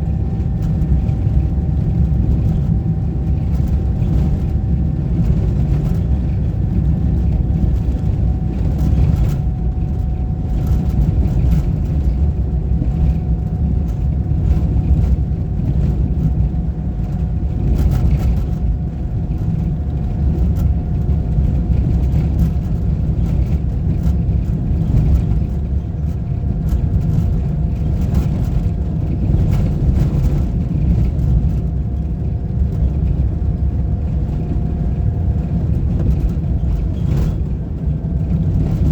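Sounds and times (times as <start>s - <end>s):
vehicle engine and road rumble: 0.0s - 38.9s.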